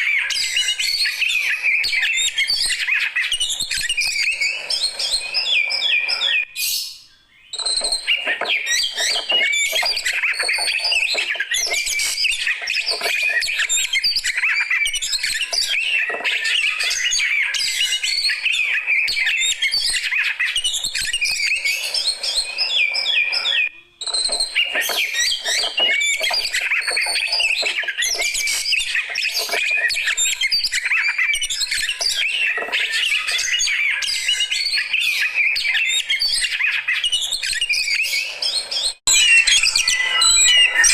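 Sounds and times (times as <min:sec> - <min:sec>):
magpie-robin singing: 0:00.0 - 0:40.9.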